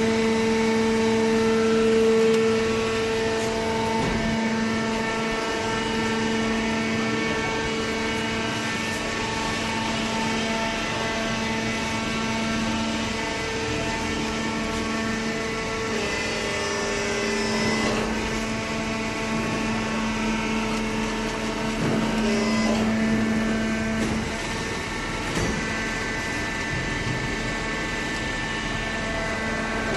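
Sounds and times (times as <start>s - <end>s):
baler motor hum and whine: 0.0s - 29.9s.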